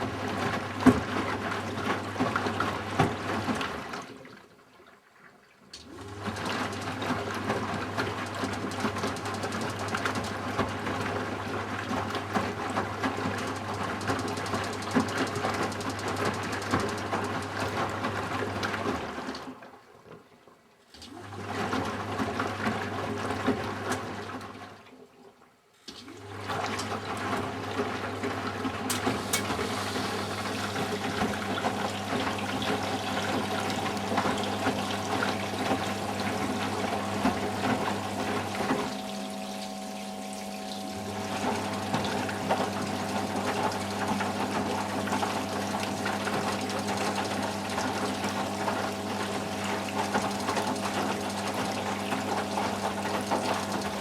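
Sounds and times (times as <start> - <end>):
washing machine motor hum: 0.0 - 4.1, 5.8 - 19.6, 21.0 - 24.6, 26.0 - 54.0.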